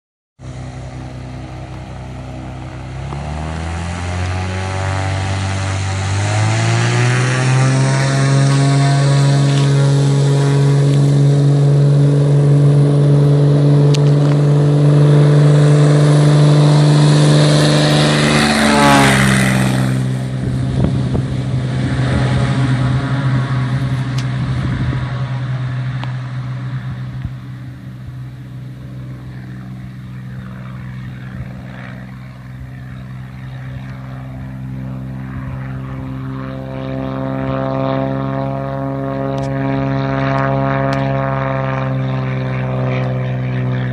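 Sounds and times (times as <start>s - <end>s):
propeller plane engine running: 0.4s - 43.9s.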